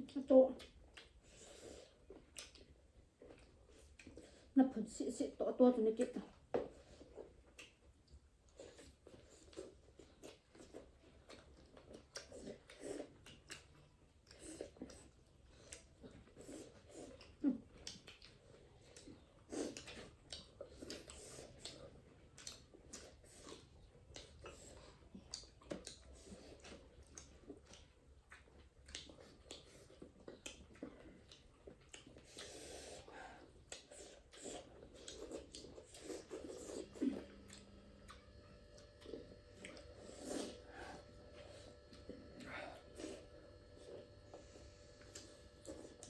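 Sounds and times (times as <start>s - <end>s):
chewing and mouth noises: 0.0s - 4.6s, 6.0s - 46.0s.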